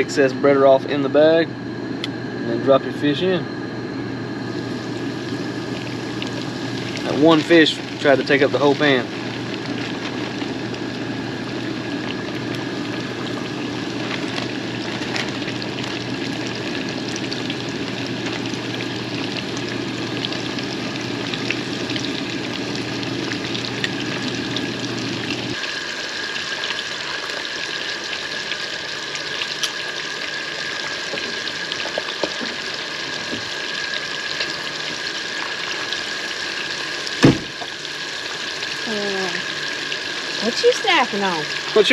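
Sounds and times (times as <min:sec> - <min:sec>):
low hum: 0:00.0 - 0:37.6
fish sizzling in a pan: 0:04.5 - 0:41.9.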